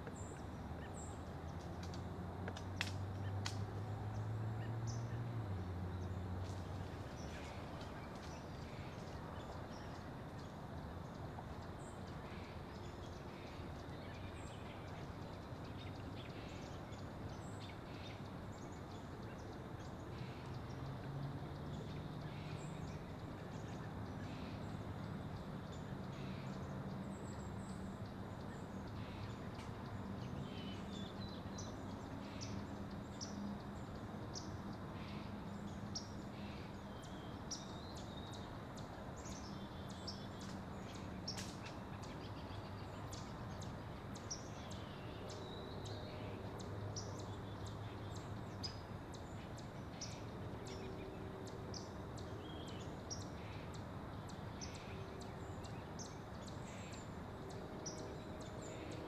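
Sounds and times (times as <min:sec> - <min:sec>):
outdoor background hiss: 0:00.0 - 0:59.0
small birds chirping: 0:00.0 - 0:59.0.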